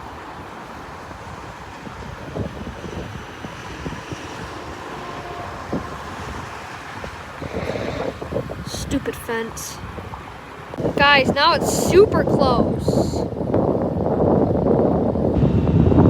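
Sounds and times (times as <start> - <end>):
jet airliner engines rumbling: 0.0 - 16.0
wind buffeting microphone: 0.0 - 16.0.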